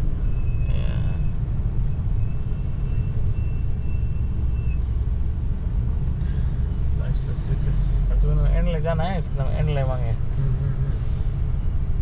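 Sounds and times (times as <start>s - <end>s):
engine low rumble: 0.0s - 12.0s
road noise: 0.0s - 12.0s.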